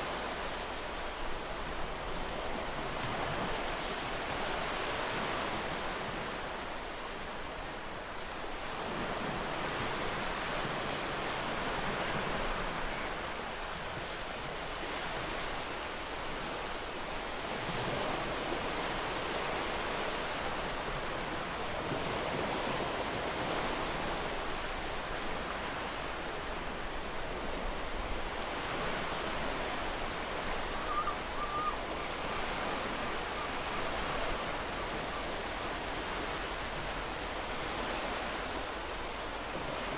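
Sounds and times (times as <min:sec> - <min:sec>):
ocean surf washing onto shore: 0:00.0 - 0:39.9.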